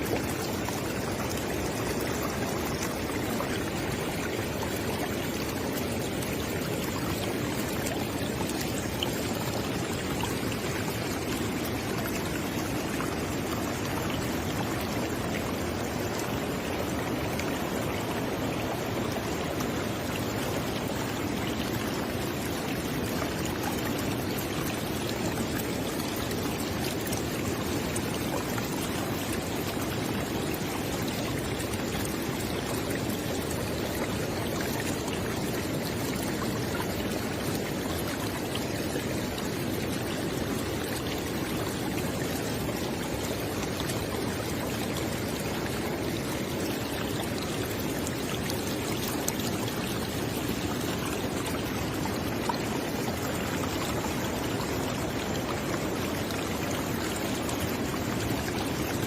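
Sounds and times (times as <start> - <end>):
river water rushing and burbling: 0.0 - 59.0.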